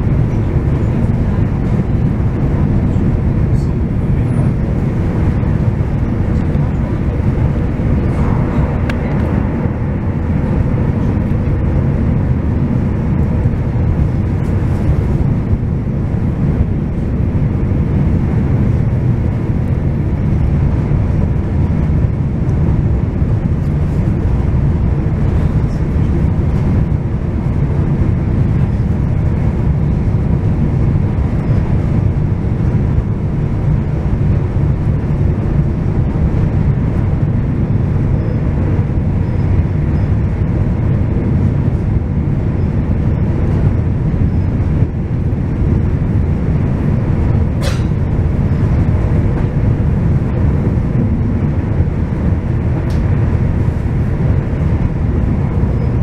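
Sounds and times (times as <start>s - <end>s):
passenger train rumbling: 0.0s - 56.0s.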